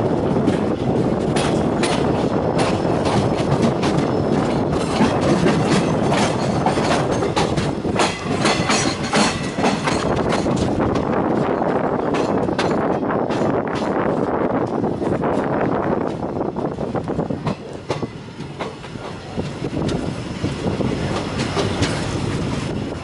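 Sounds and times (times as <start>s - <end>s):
train running rumble: 0.0s - 23.0s
train wheels clattering over rail joints: 0.0s - 23.0s.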